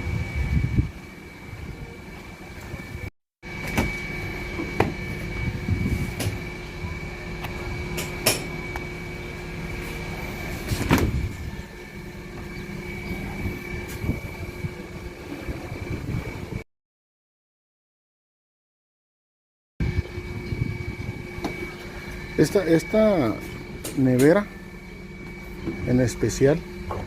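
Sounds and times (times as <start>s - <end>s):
steady two-tone hum: 0.0s - 16.6s, 19.8s - 27.0s.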